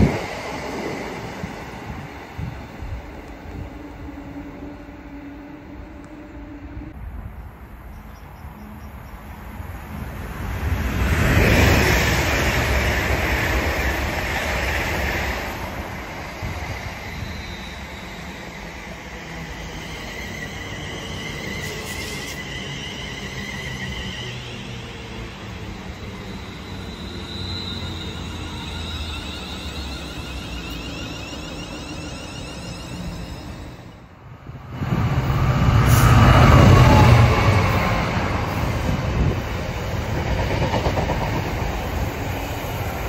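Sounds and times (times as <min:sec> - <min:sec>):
low train hum: 0:00.0 - 0:43.0
train passing with wheel rush: 0:00.0 - 0:43.0
train whine: 0:00.0 - 0:43.0.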